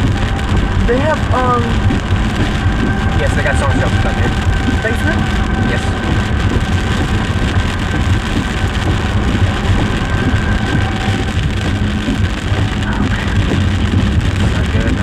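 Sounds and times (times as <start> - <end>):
faint steady whine: 0.0 - 15.0
road and engine rumble: 0.0 - 15.0.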